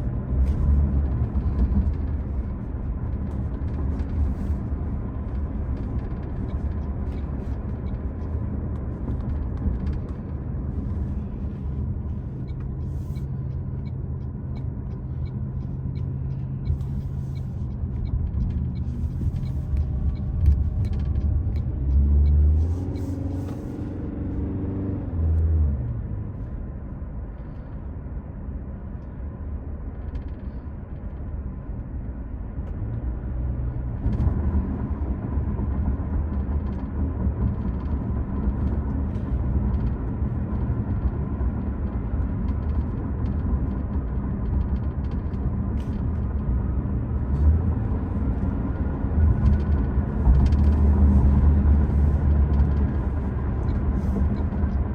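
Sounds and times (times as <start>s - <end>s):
car road rumble: 0.0s - 54.9s.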